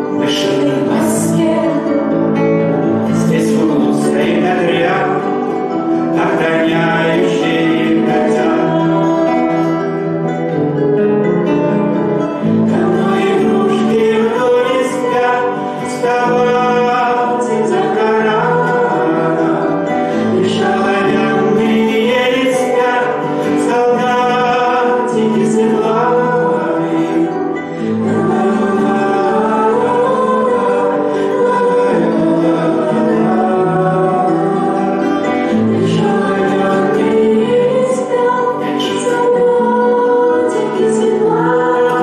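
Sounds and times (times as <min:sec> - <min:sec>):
man singing: 0:00.0 - 0:02.2, 0:02.8 - 0:10.4, 0:12.6 - 0:42.0
nylon-string guitar strumming: 0:00.0 - 0:42.0.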